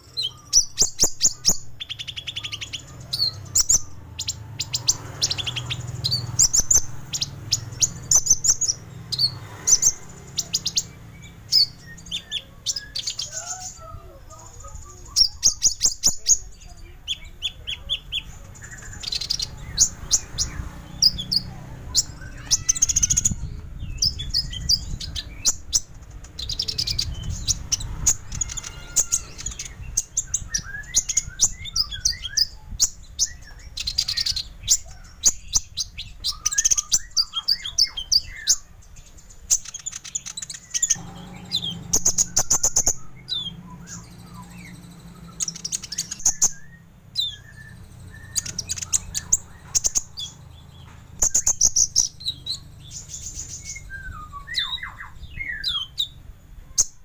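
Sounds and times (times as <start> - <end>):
sunbird chirps and trills: 0.0 - 57.0.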